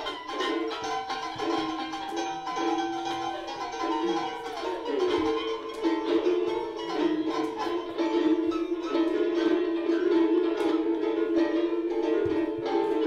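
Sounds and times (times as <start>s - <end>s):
held music tones: 0.0s - 13.0s
quick plucked notes: 0.0s - 13.0s.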